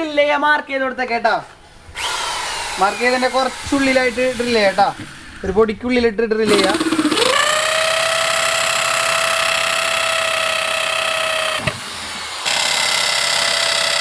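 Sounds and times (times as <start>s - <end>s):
electric drill whining: 1.7s - 5.6s, 6.4s - 14.0s.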